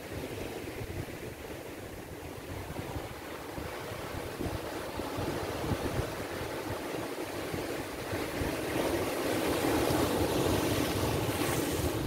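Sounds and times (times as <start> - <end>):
surf breaking over rocks: 2.3 - 12.0.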